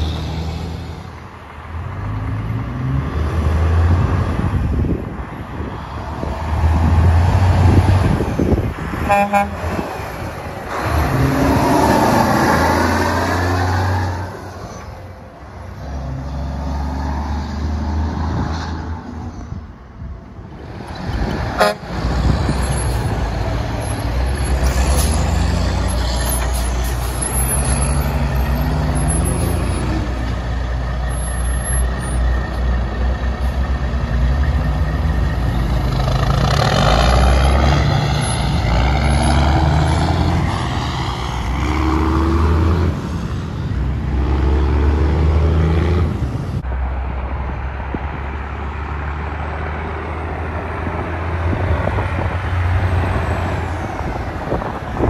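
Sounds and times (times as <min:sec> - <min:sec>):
diesel trucks accelerating past: 0:00.0 - 0:55.0.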